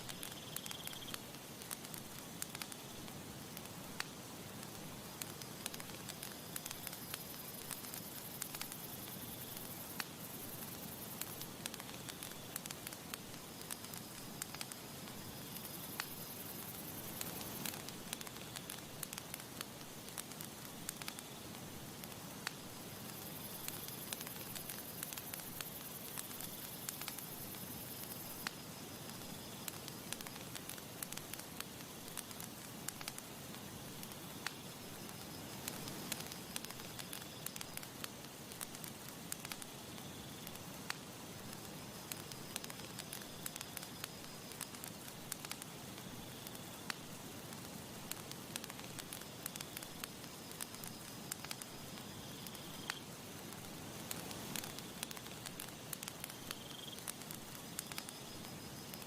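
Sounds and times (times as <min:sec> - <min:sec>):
burning wood crackling and popping: 0:00.0 - 0:59.0
campfire hissing: 0:00.0 - 0:59.0.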